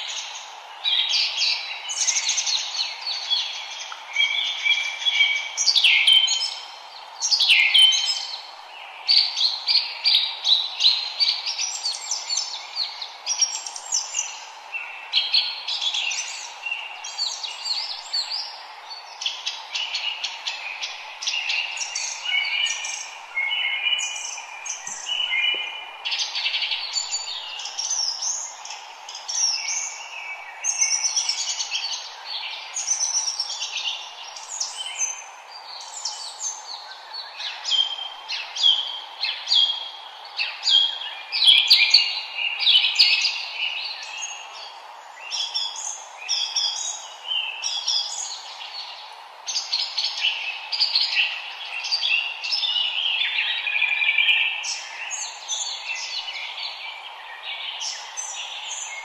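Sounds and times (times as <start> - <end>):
songbirds singing and chirping: 0.0 - 59.0
steady background hiss: 0.0 - 59.0.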